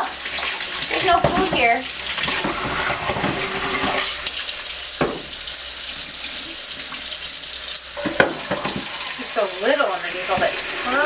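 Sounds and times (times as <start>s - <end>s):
faucet running into bathtub: 0.0s - 11.0s.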